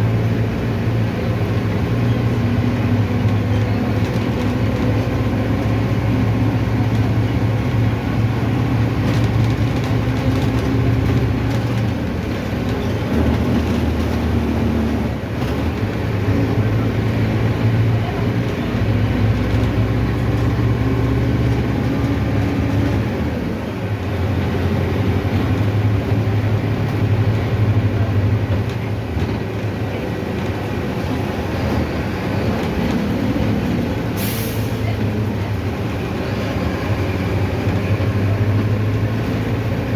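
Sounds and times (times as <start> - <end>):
bus engine drone: 0.0 - 39.9
road and body noise: 0.0 - 39.9.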